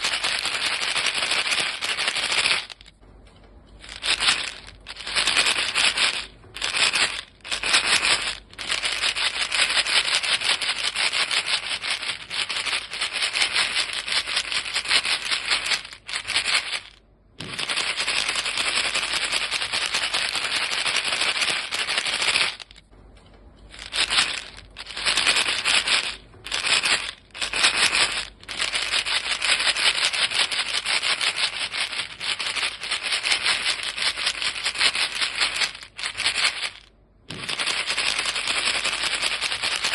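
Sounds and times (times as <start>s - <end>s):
gum rattling in shaken box: 0.0s - 3.0s, 3.8s - 22.9s, 23.7s - 39.9s.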